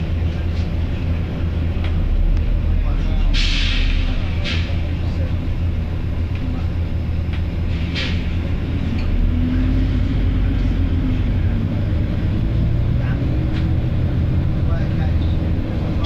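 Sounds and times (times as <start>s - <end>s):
bus diesel engine idling: 0.0s - 16.0s.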